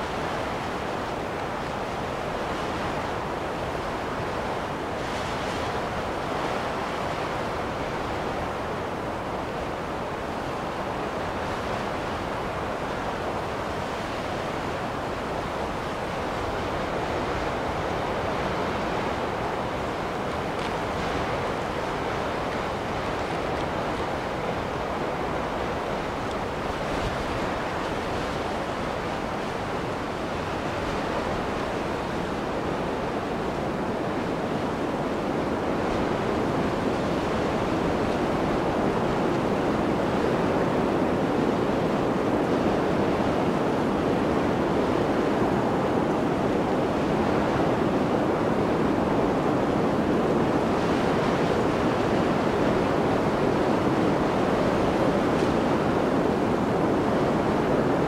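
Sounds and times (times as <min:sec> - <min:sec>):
blizzard wind rushing: 0:00.0 - 0:58.0.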